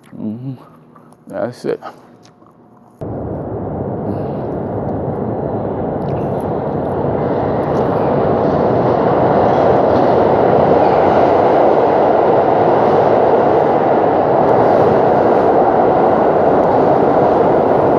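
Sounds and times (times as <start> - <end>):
subway train rumbling through station: 3.0 - 17.9.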